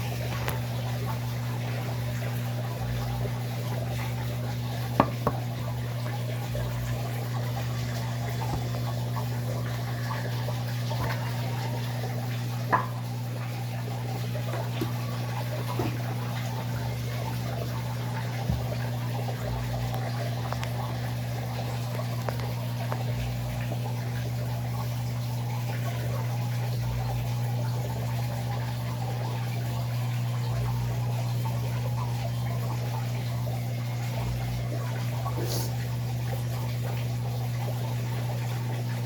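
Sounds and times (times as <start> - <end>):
drain pump humming: 0.0 - 39.0
water gurgling and trickling: 0.0 - 39.0.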